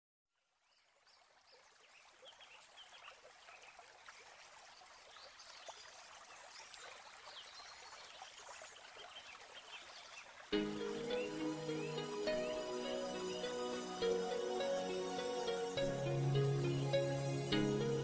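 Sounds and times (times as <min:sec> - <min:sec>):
water trickling: 0:00.6 - 0:18.0.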